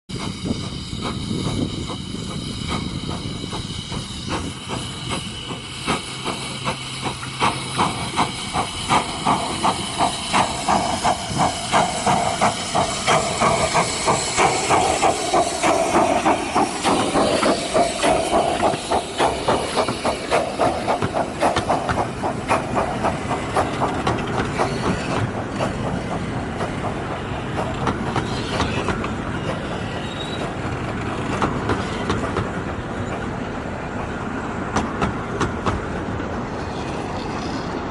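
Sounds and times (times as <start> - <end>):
steam hissing: 0.1 - 37.9
steam locomotive exhaust chuffs: 0.1 - 37.9.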